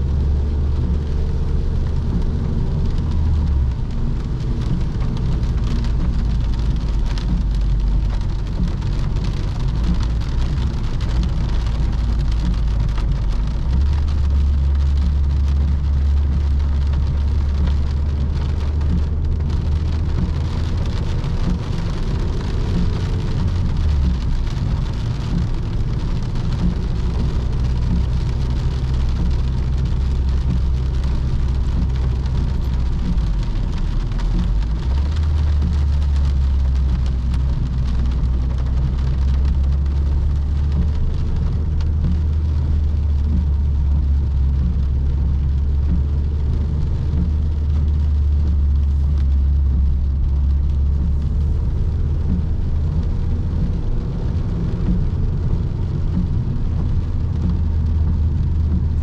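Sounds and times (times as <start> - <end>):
car engine drone: 0.0 - 59.0
road noise hiss: 0.0 - 59.0.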